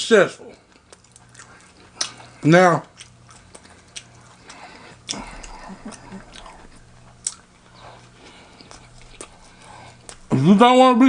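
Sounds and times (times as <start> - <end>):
person chewing food: 0.5 - 10.4.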